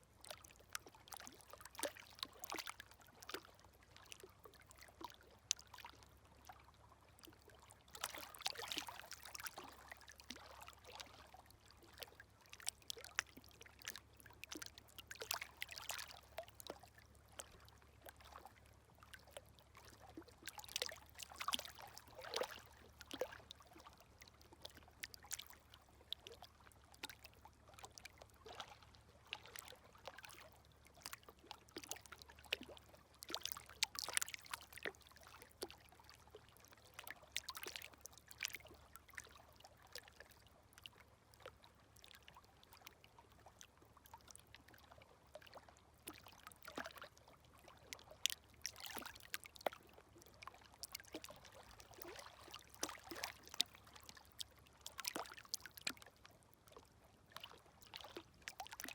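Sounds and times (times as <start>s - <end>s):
small waves lapping at shore: 0.0s - 58.9s.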